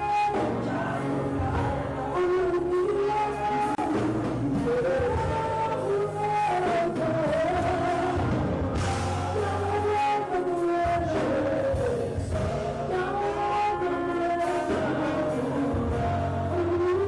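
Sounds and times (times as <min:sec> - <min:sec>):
church worship music: 0:00.0 - 0:17.0
steady low bass: 0:00.0 - 0:17.0.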